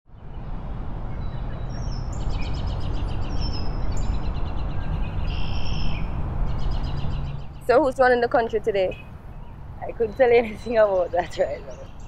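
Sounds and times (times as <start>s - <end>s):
birds chirping: 0.1s - 12.0s.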